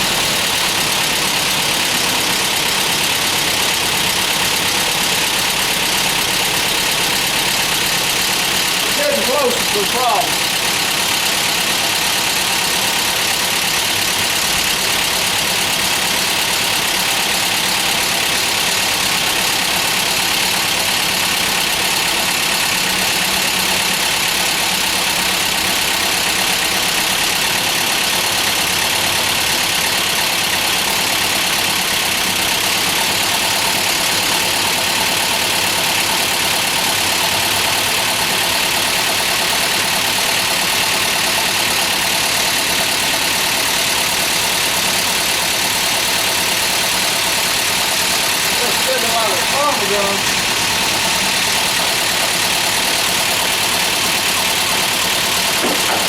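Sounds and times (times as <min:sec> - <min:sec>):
misfiring engine idling: 0:00.0 - 0:56.0.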